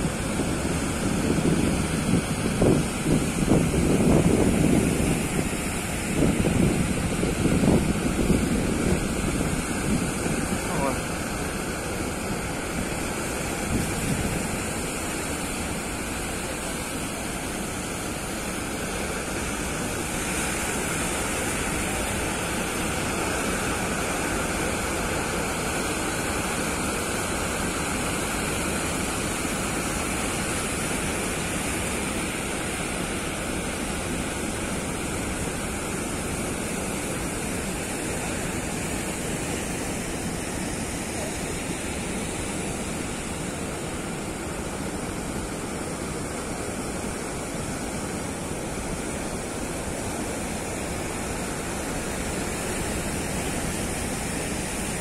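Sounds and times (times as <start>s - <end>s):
waves breaking on beach and rocks: 0.0s - 55.0s.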